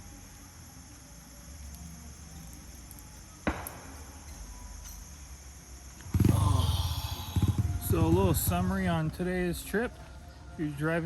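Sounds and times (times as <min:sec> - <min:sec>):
insect buzzing: 0:00.0 - 0:09.2.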